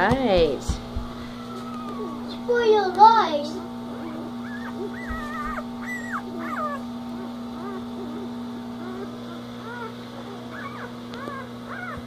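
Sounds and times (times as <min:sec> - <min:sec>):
steady low hum: 0:00.0 - 0:12.0
puppies whimpering and squealing: 0:01.0 - 0:12.0.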